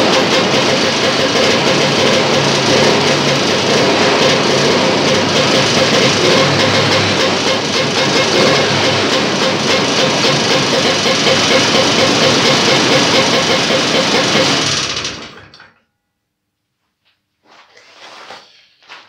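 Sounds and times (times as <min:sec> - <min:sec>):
two-stroke engine running: 0:00.0 - 0:15.7.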